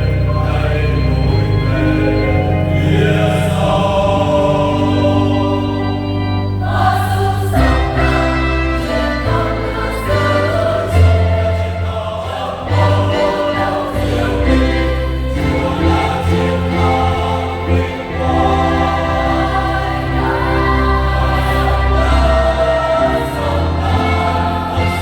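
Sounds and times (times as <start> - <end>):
choir singing a hymn: 0.0 - 25.0.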